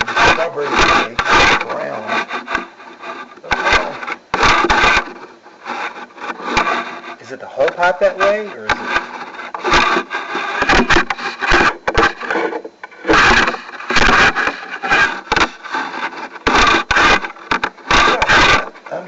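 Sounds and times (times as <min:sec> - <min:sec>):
rubbing and scraping: 0:00.0 - 0:19.0.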